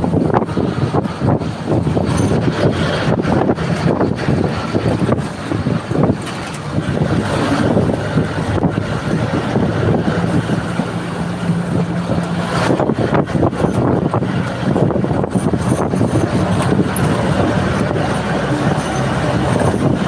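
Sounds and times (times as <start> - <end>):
bus engine running: 0.0 - 20.0
wind rushing over microphone: 0.0 - 20.0.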